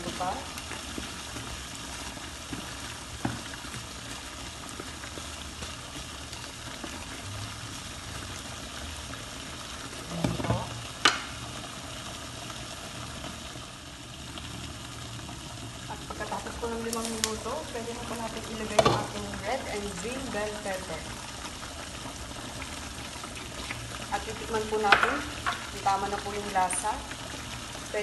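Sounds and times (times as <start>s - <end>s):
curry simmering in a pan: 0.0s - 28.0s.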